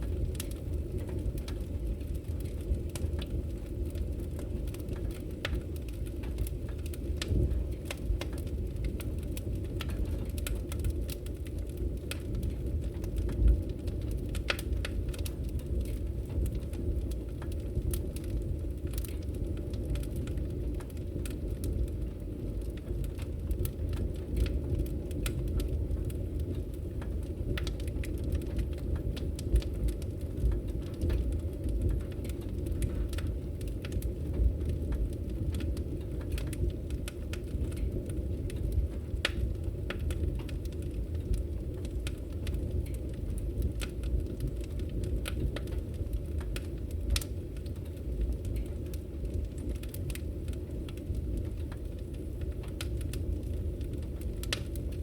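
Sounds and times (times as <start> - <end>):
firewood crackling and popping: 0.0 - 55.0
low rush of flames: 0.0 - 55.0.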